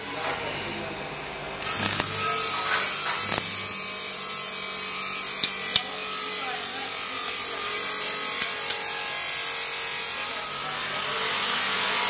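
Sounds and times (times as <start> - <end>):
arc welding crackling hiss: 0.7 - 12.0.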